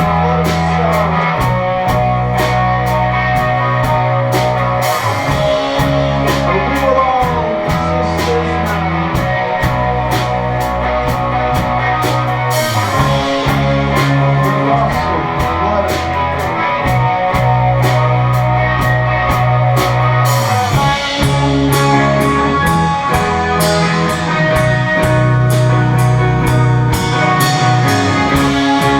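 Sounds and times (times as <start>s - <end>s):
bass guitar: 0.0s - 28.9s
drum kit beat: 0.0s - 28.9s
electric guitars: 0.0s - 28.9s.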